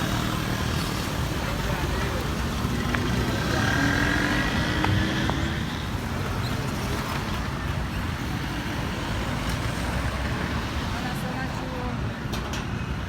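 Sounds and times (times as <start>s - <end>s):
road noise: 0.0s - 13.0s
vehicle engines passing: 0.0s - 13.0s.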